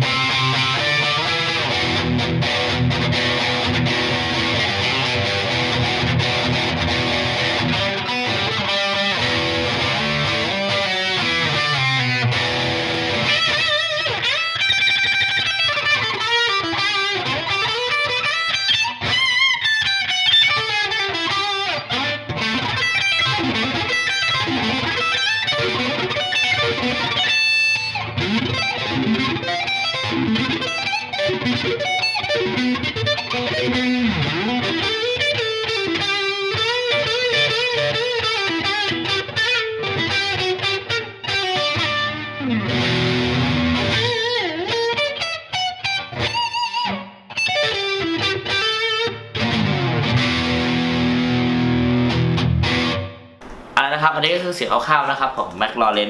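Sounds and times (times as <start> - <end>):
distorted electric guitar lead: 0.0 - 56.0.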